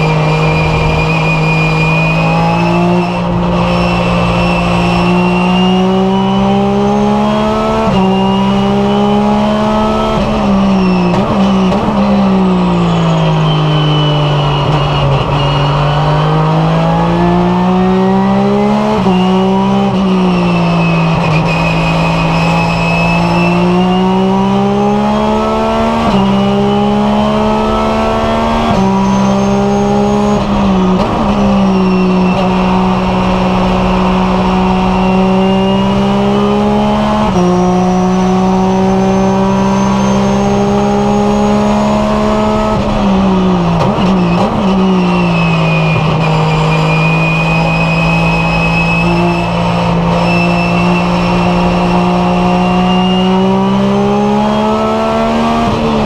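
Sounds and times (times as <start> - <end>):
racing engine accelerating: 0.0 - 56.0.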